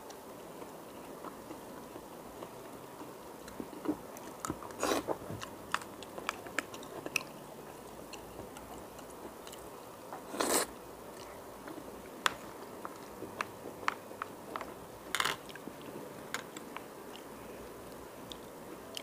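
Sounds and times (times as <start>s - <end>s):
person chewing food: 0.6s - 19.0s.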